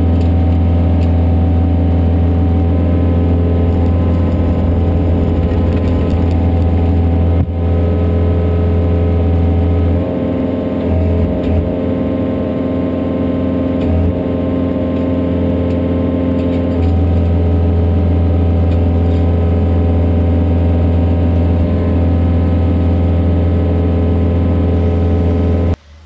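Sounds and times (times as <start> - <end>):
excavator diesel engine running: 0.0 - 25.8.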